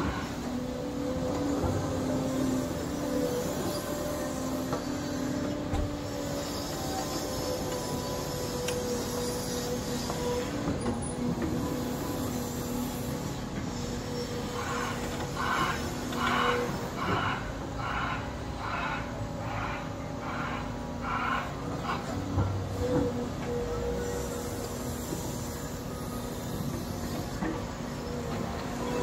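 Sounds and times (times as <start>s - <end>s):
excavator engine and hydraulics: 0.0s - 29.0s
hydraulic whining hum: 0.0s - 29.0s.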